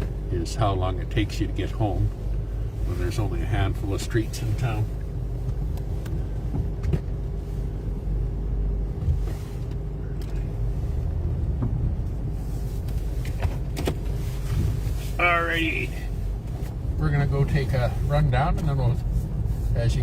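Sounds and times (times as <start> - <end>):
car engine rumble: 0.0 - 20.0.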